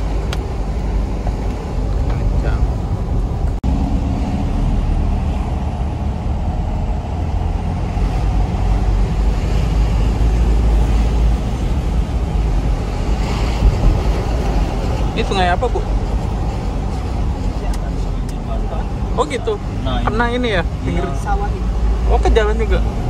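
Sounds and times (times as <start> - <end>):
engine drone: 0.0 - 23.0
tyre and road rumble: 0.0 - 23.0.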